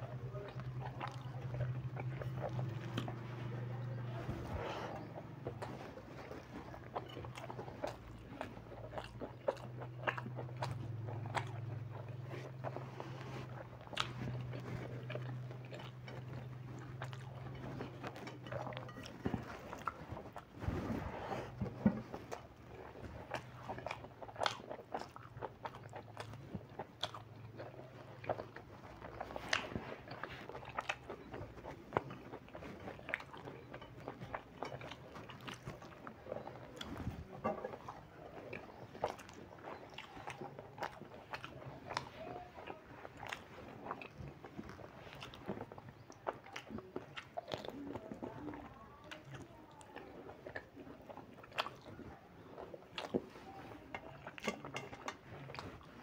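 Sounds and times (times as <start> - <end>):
chewing and wet smacking: 0.0 - 56.0
low steady hum: 0.0 - 56.0.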